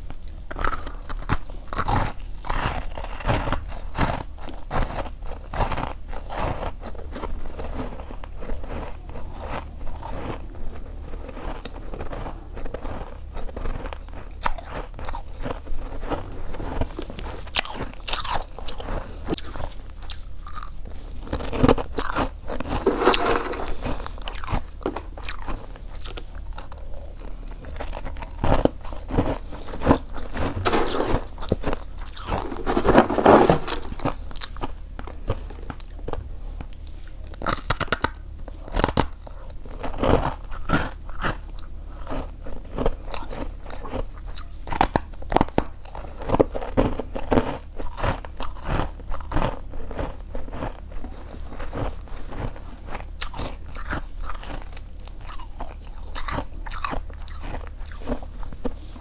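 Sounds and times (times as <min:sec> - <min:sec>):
frost crunching as it is chewed: 0:00.0 - 0:59.0.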